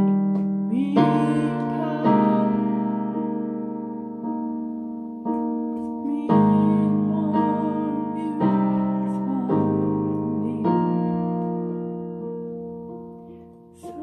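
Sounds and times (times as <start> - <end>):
keyboard piano chords: 0.0 - 14.0.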